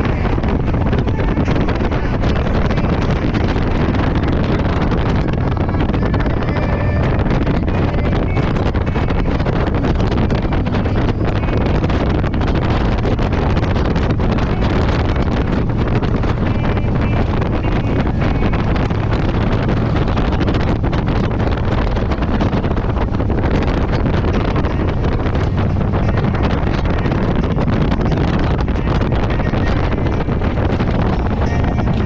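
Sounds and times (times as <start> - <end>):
motorcycle engine drone: 0.0 - 32.0
wind buffeting microphone: 0.0 - 32.0.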